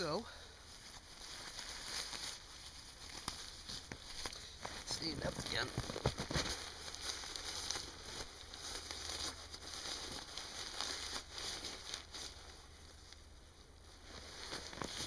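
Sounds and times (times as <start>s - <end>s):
fabric rustling and crinkling: 0.0s - 15.0s.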